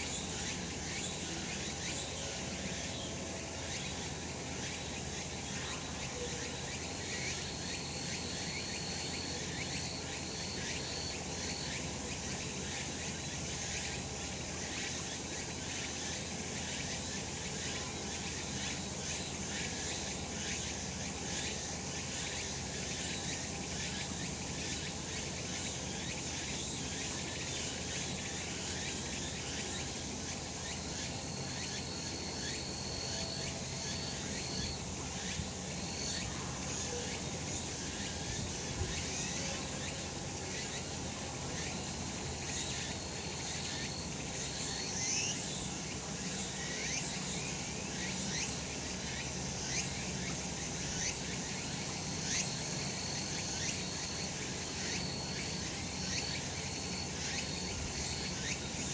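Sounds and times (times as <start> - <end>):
cicadas singing: 0.0 - 58.9.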